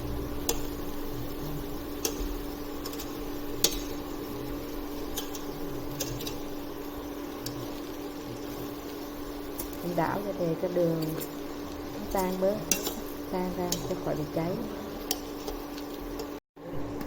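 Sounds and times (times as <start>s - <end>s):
utensil scraping cooking pot: 0.0s - 9.9s, 10.6s - 16.4s
low hum: 0.0s - 15.2s.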